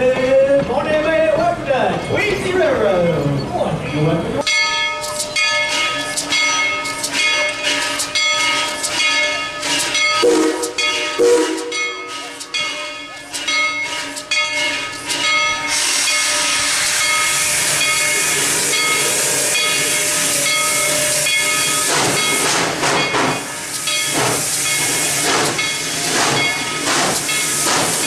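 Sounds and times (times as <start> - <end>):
steam blowing from cylinder cocks: 5.1 - 28.0
steam locomotive hiss: 5.1 - 28.0.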